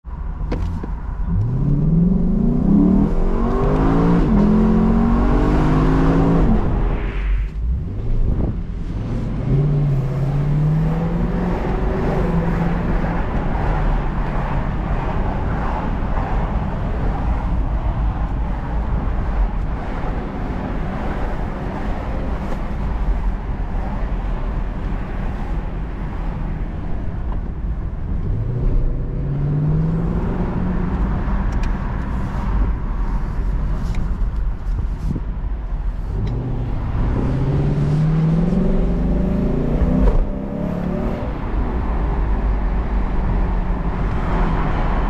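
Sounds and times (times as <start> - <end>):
road and tyre noise: 0.0 - 45.0
car engine accelerating hard: 0.6 - 33.9, 35.7 - 45.0.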